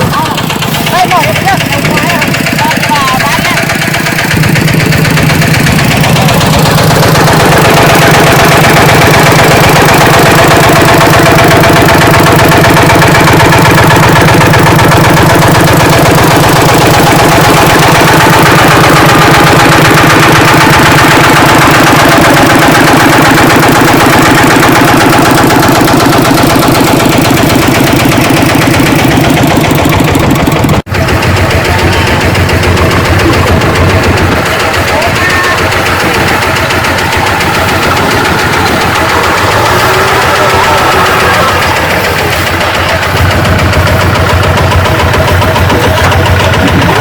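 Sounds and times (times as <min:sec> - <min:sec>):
diesel engine droning: 0:00.0 - 0:47.0
mechanical clatter: 0:00.0 - 0:47.0.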